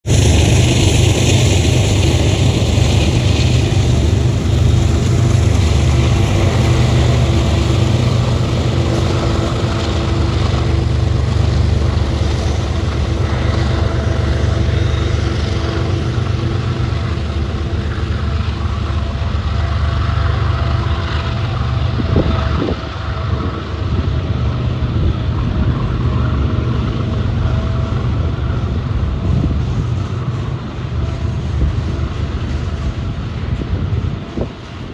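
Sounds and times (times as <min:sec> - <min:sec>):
diesel locomotive engines rumbling: 0:00.0 - 0:34.9
freight cars rolling on rails: 0:00.0 - 0:34.9.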